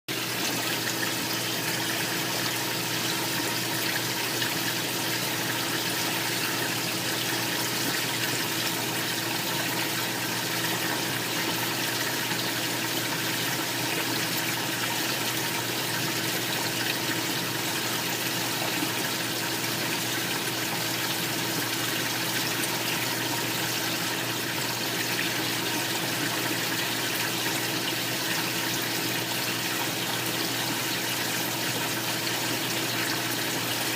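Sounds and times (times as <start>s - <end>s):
water circulation rushing: 0.1s - 33.9s.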